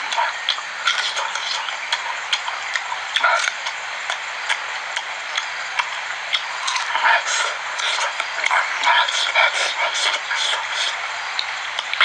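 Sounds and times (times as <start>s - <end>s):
steady hiss: 0.0s - 12.0s
wet chewing and smacking: 0.0s - 12.0s.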